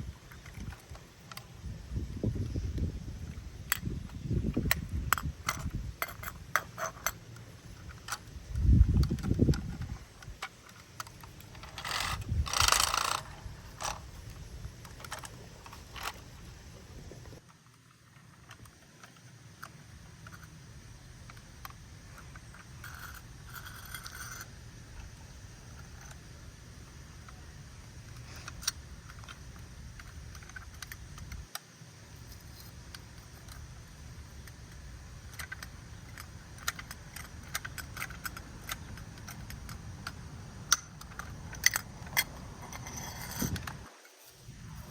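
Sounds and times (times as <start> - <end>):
toy truck clattering and scraping: 3.7 - 20.6, 21.2 - 26.3, 27.0 - 44.2.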